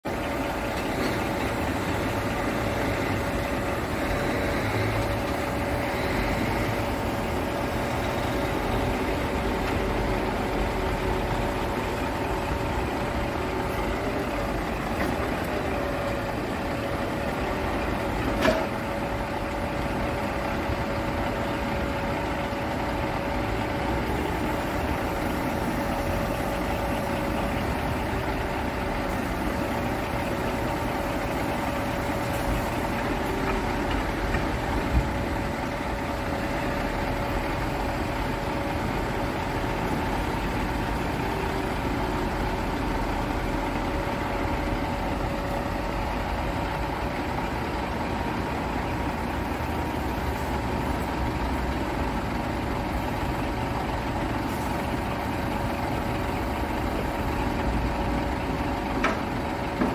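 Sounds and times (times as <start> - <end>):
diesel truck engine idling: 0.0 - 59.9
hydraulic crane whine: 0.1 - 59.9.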